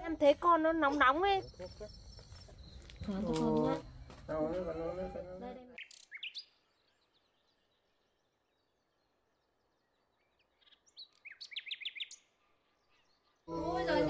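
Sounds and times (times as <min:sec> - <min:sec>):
small birds chirping: 0:00.0 - 0:04.6, 0:05.5 - 0:14.0.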